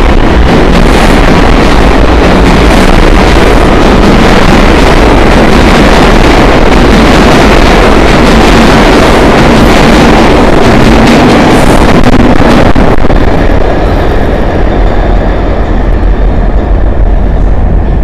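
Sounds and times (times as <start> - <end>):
subway train wheels rushing on rail: 0.0 - 18.0.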